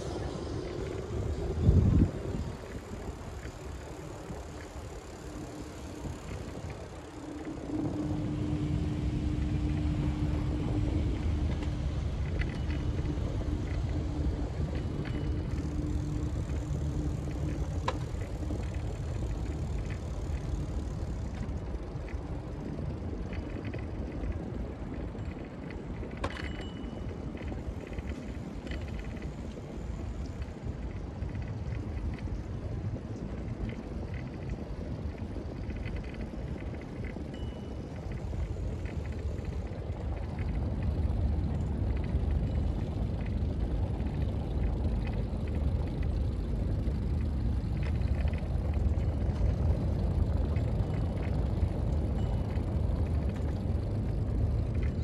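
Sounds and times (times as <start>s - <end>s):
faint held hum: 0.0s - 55.0s
low rumble of riding: 0.0s - 55.0s.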